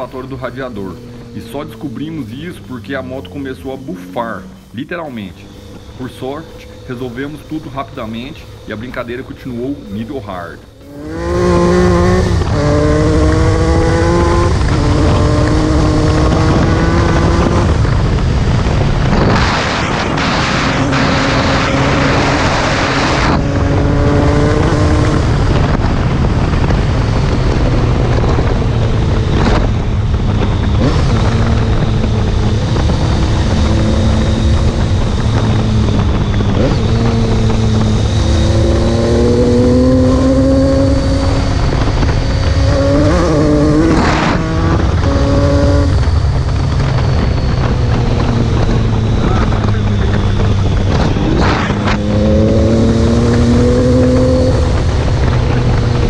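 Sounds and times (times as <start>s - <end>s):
motorcycle engine revving: 0.0s - 56.0s
wind on microphone: 0.0s - 56.0s.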